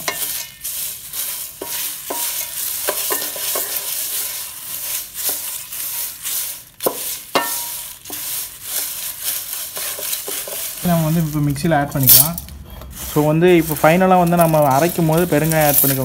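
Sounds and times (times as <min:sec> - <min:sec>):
spatula stirring dry spices: 0:00.0 - 0:16.0.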